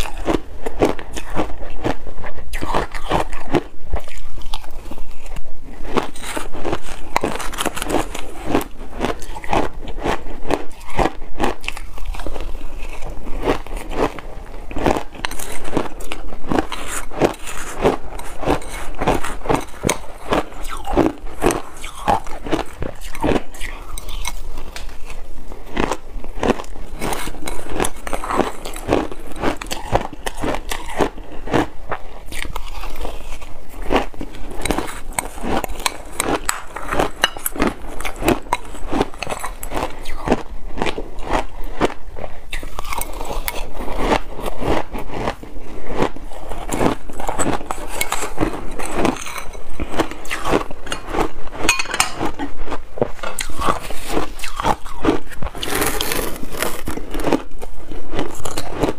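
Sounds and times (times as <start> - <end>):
chewing crunchy ice: 0.0 - 58.9.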